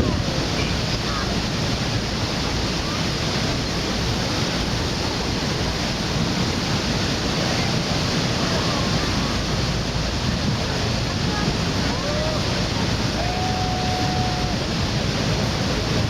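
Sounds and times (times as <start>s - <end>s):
rush of falling water: 0.0s - 16.0s.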